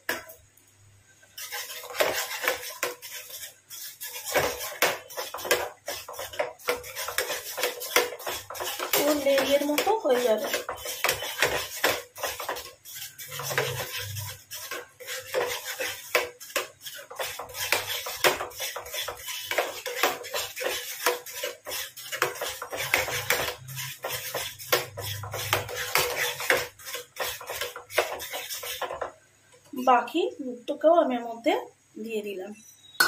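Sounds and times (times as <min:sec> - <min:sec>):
spatula scraping metal pan: 0:01.3 - 0:29.2.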